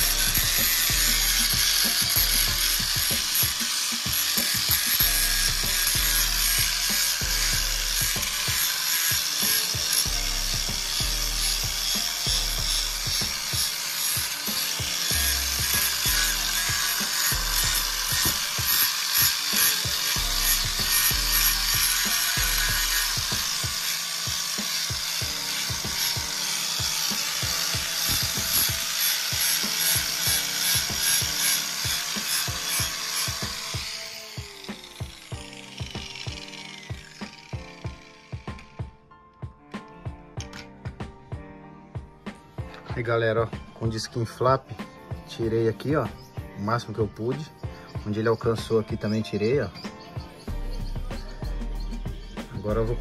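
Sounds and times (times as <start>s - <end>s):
angle grinder grinding metal: 0.0s - 39.0s, 39.8s - 41.4s, 42.3s - 53.0s
background music with bass: 0.0s - 53.0s.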